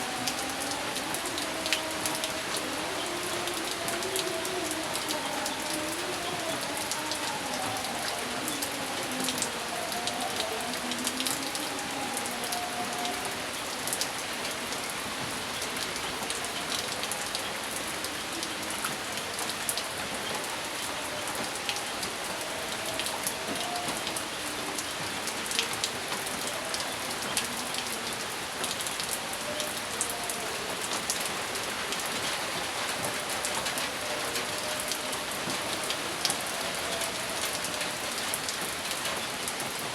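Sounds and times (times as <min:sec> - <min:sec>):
raindrops striking close by: 0:00.0 - 0:39.9
steady rain: 0:00.0 - 0:39.9.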